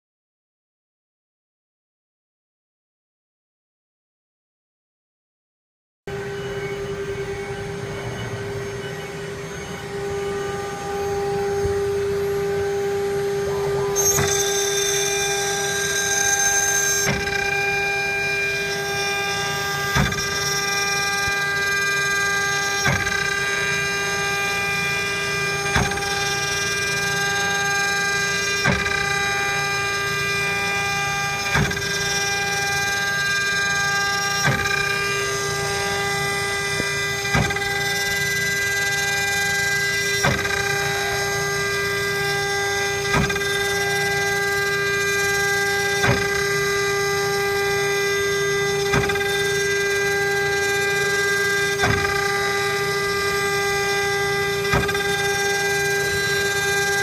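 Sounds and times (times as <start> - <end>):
router spindle motors whining: 6.1 - 57.0.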